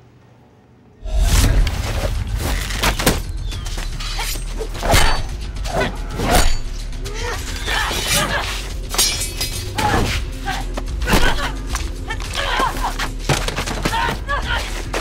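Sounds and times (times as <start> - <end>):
film music: 0.0 - 15.0.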